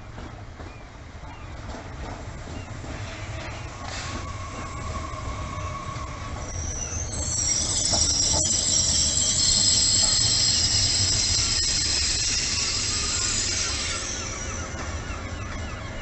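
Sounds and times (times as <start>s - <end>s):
train running gear rumbling: 0.0s - 16.0s
high-pitched brake squeal: 3.1s - 16.0s.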